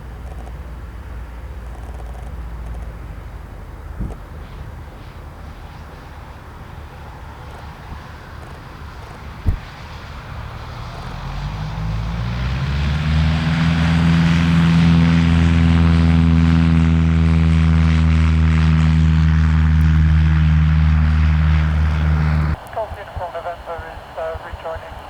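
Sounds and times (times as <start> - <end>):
propeller aircraft engine drone: 0.0 - 25.0.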